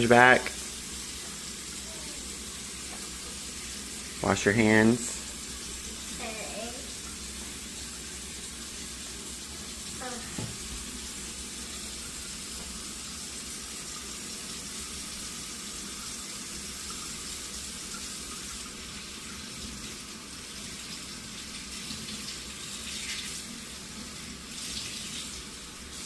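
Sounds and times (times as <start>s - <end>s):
faucet running into sink: 0.0s - 26.0s.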